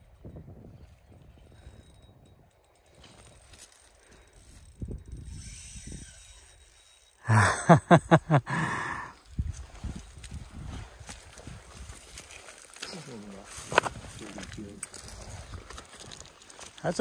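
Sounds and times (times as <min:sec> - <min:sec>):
fishing reel ratcheting: 0:00.1 - 0:07.8, 0:09.2 - 0:17.0.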